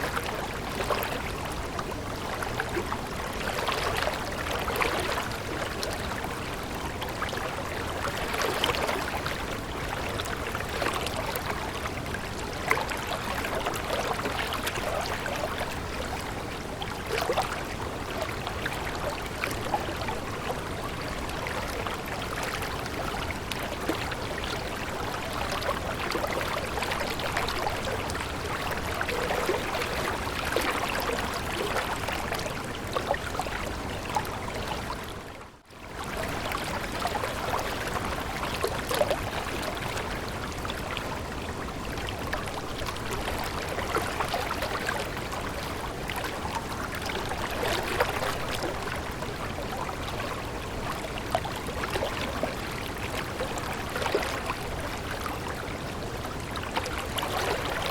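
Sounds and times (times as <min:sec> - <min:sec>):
small water splashes: 0:00.0 - 0:35.3, 0:35.9 - 0:57.9
stream water babbling: 0:00.0 - 0:57.9.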